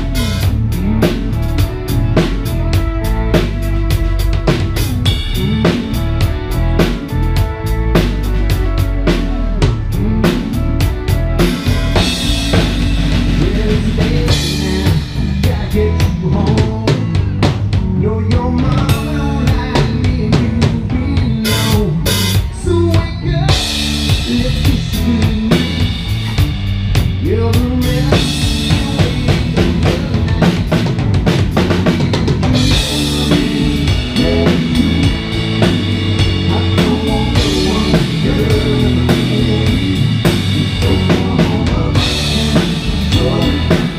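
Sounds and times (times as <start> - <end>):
live band playing: 0.0 - 43.9.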